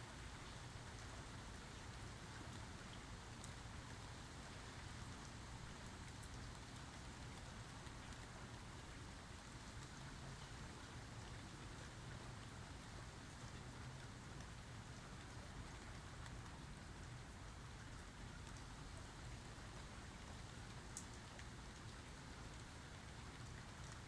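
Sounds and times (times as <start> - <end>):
quiet rainfall: 0.0 - 24.0.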